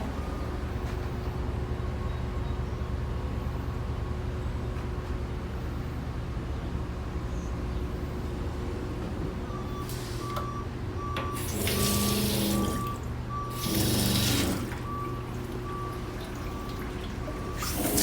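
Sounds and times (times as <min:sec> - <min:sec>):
truck reversing alarm beeping: 0:00.0 - 0:04.3, 0:07.7 - 0:18.0
low engine rumble: 0:00.0 - 0:18.0.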